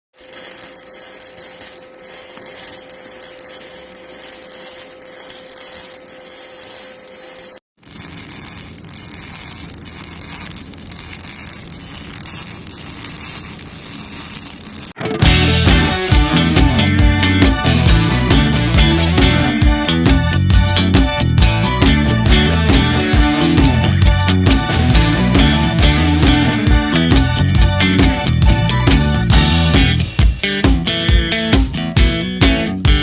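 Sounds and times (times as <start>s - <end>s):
crackling welding hiss: 0.2s - 29.7s
welding hiss: 0.2s - 29.7s.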